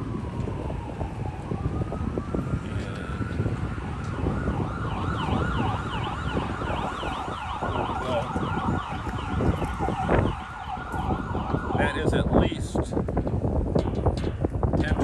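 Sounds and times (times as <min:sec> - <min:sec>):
emergency siren yelping: 0:00.0 - 0:12.4
wind rumble on microphone: 0:00.0 - 0:15.0.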